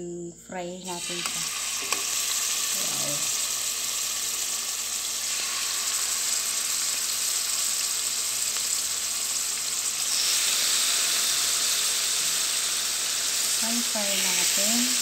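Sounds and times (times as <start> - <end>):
meat sizzling in oil: 0.8 - 15.0.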